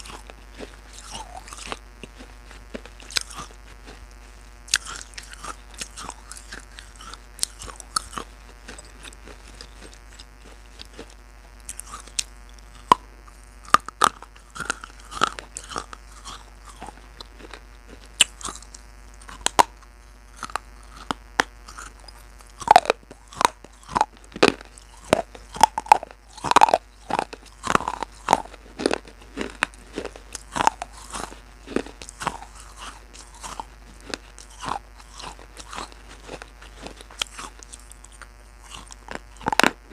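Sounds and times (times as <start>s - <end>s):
crunching and clicking: 0.0s - 39.9s.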